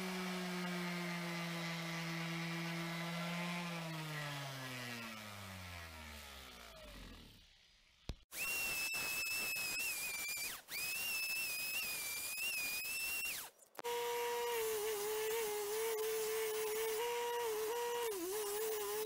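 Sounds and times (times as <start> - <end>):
small power tool whining: 0.0 - 19.0.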